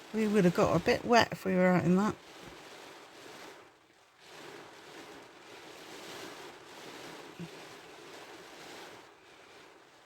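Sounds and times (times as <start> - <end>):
rain and wind on a car: 1.8 - 10.0.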